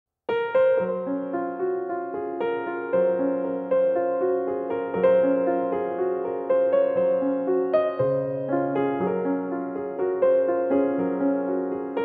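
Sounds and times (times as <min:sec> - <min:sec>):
slow piano-like keyboard notes: 0:00.3 - 0:12.0.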